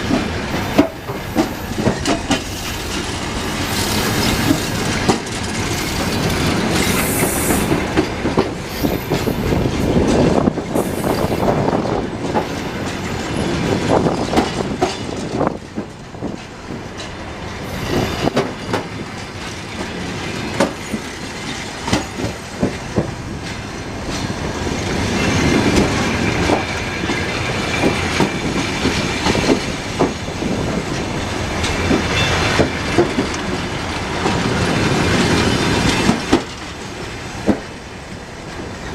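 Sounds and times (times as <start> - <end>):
train wheels clacking over rail joints: 0.0 - 38.9.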